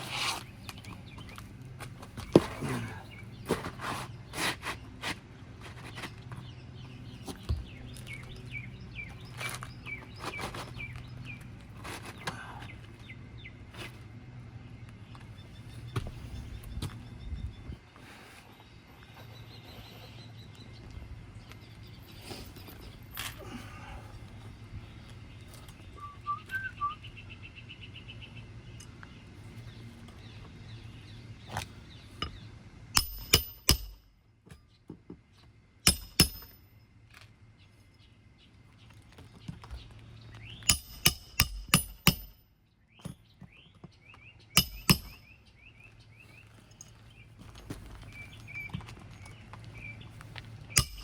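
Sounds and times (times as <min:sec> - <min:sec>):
birds chirping: 0:00.0 - 0:34.0, 0:37.4 - 0:51.0.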